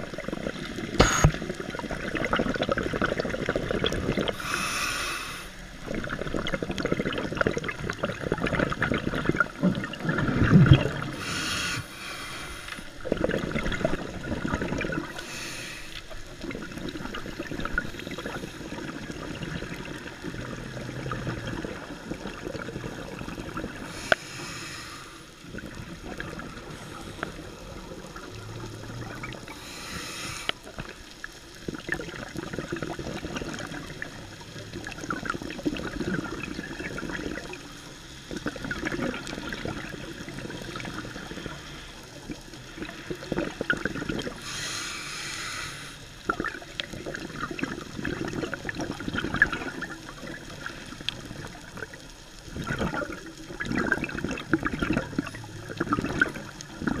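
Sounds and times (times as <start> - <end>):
diver's exhaled regulator bubbles: 0.0 - 4.7, 5.8 - 24.2, 25.4 - 44.8, 46.3 - 57.0
muffled underwater water rumble: 5.6 - 24.7, 25.4 - 45.2, 46.2 - 57.0.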